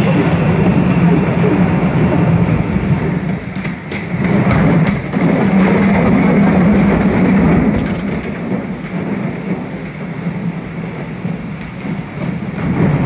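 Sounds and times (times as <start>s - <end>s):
train rumbling along rails: 0.0s - 13.0s.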